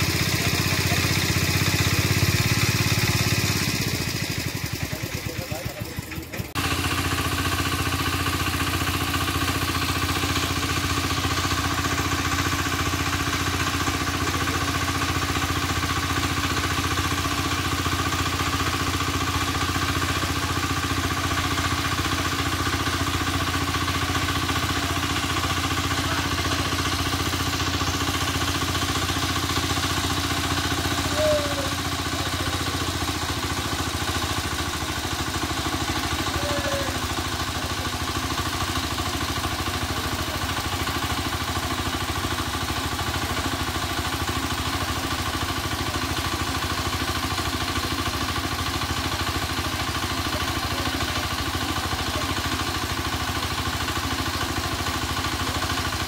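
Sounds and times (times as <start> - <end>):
small engine running steadily: 0.0 - 56.0.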